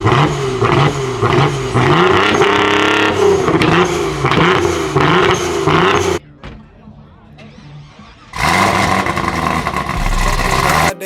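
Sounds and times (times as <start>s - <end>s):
car engine revving: 0.0s - 6.2s, 7.4s - 11.0s.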